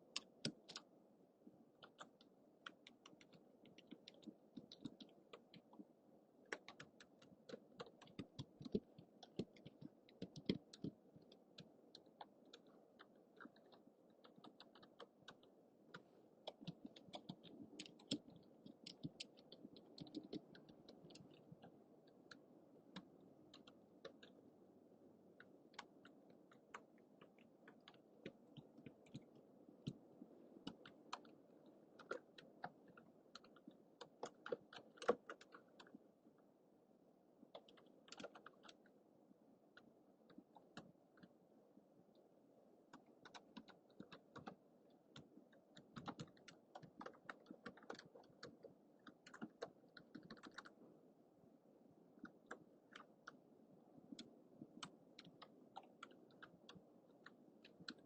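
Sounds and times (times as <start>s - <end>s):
faint microphone hiss: 0.0s - 58.0s
typing on computer keyboard: 0.1s - 0.9s, 1.8s - 5.8s, 6.5s - 24.4s, 25.4s - 30.0s, 30.6s - 31.4s, 32.0s - 36.0s, 37.5s - 38.9s, 42.9s - 50.8s, 52.2s - 53.4s, 54.1s - 58.0s.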